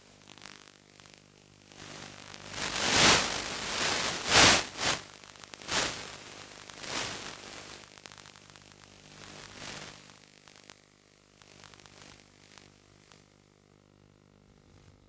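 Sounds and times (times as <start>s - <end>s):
faint steady hum: 0.0s - 15.0s
video link static hiss: 0.0s - 15.0s.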